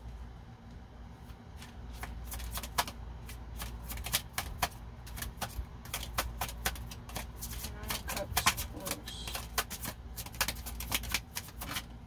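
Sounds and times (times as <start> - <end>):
cards being shuffled: 1.2 - 12.0.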